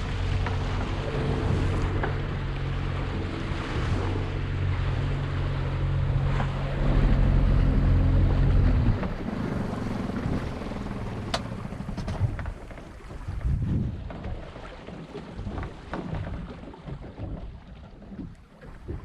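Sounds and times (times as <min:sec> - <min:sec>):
wind on microphone: 0:00.0 - 0:14.6, 0:15.3 - 0:19.0
boat engine humming: 0:00.0 - 0:19.0
water sloshing: 0:00.0 - 0:19.0.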